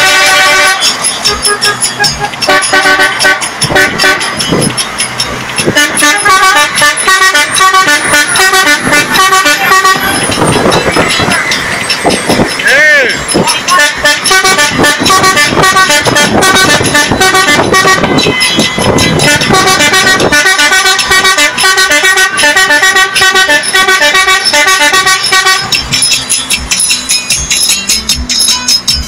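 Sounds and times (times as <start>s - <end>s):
vehicle horns tooting rhythmically: 0.0s - 29.0s.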